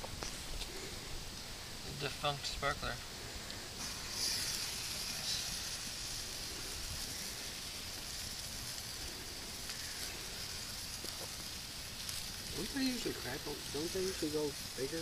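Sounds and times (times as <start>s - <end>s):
sparkler hissing: 0.1s - 15.0s.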